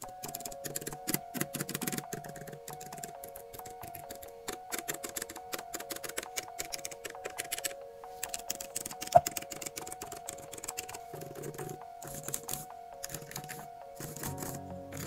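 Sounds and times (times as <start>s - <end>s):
background music: 0.0s - 15.0s
fast keyboard typing clicks: 0.0s - 15.0s.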